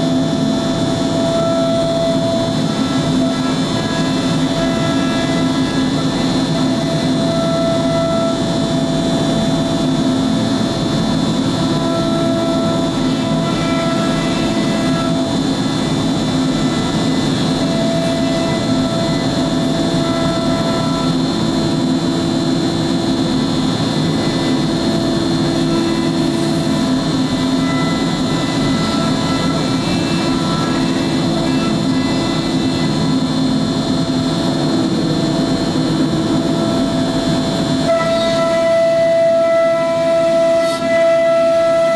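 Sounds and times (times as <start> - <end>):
router spindle cutting plywood: 0.0 - 41.9.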